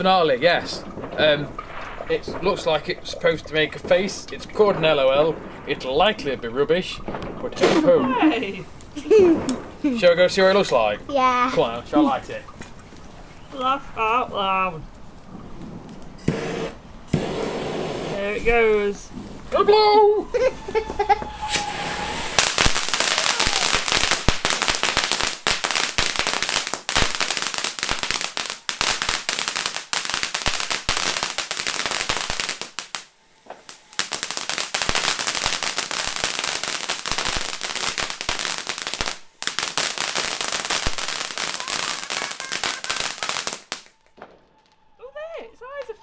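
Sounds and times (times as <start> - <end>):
ground firework crackling and fizzing: 0.0 - 13.6, 15.0 - 44.8.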